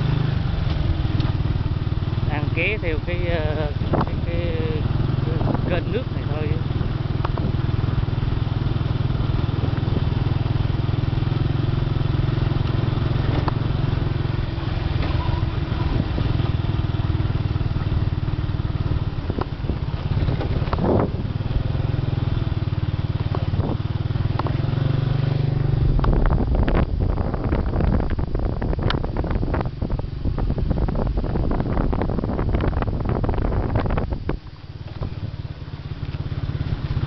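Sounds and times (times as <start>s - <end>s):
motorcycle engine running: 0.0s - 37.0s
wind noise on microphone: 0.0s - 37.0s.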